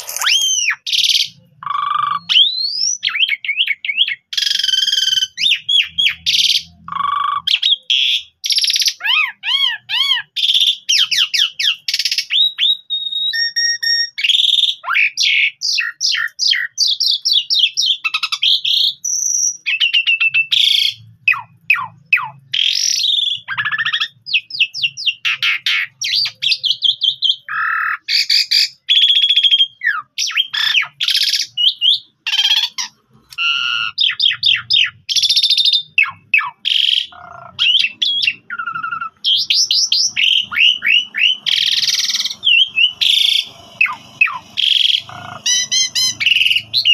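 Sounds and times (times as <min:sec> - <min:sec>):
bird singing: 0:00.0 - 0:46.9.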